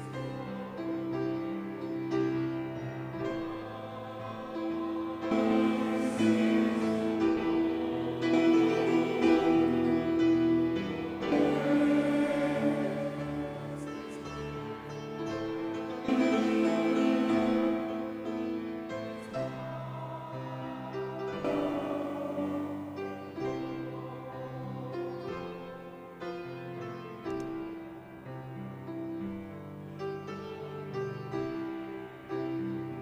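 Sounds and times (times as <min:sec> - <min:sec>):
choir singing a carol: 0:00.0 - 0:33.0
piano accompaniment: 0:00.0 - 0:33.0.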